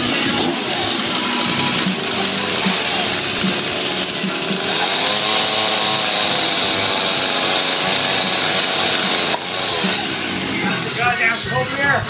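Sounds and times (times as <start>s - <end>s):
chainsaw running at high revs: 0.0s - 11.0s.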